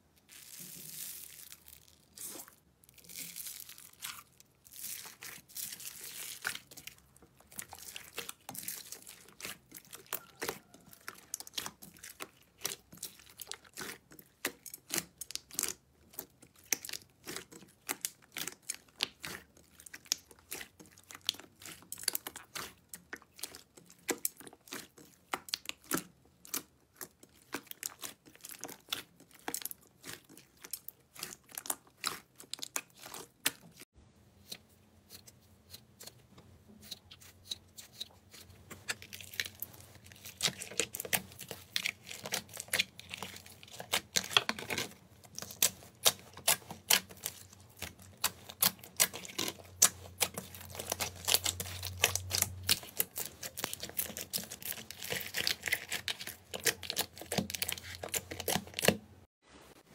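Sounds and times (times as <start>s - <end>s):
hands squeezing sticky slime: 0.2s - 36.2s, 36.8s - 59.0s.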